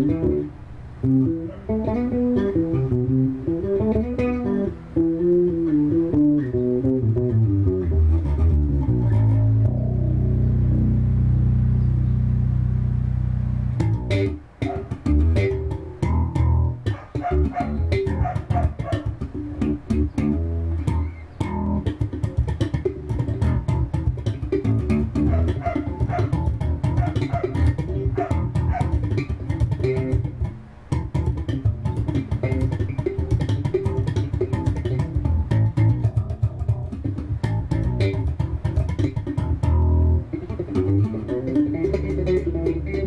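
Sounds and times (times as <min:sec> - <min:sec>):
slap bass guitar: 0:00.0 - 0:43.0.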